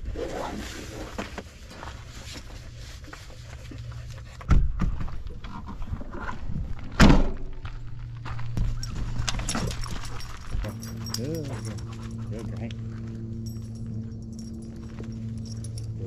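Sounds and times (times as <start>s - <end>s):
steady low hum: 0.4s - 16.0s.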